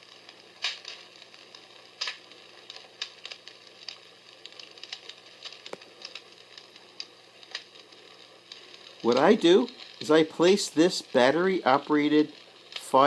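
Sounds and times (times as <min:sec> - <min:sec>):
recorded fire crackling: 0:00.0 - 0:13.0.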